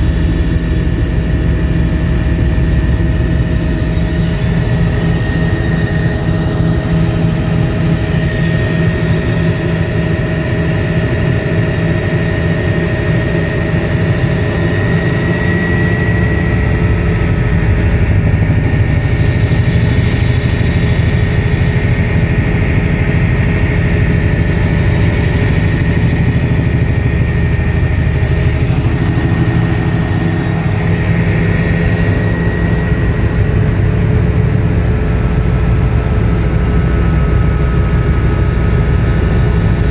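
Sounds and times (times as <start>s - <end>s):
helicopter drone inside cabin: 0.0s - 39.9s
high-pitched whine: 0.0s - 39.9s.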